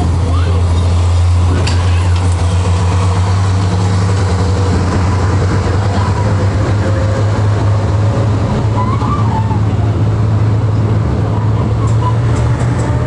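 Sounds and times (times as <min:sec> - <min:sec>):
bus engine droning: 0:00.0 - 0:13.0
road and cabin noise: 0:00.0 - 0:13.0.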